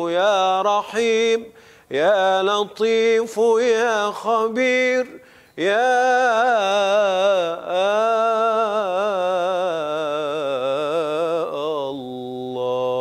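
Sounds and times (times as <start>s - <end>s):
man singing religious chant: 0.0s - 13.0s.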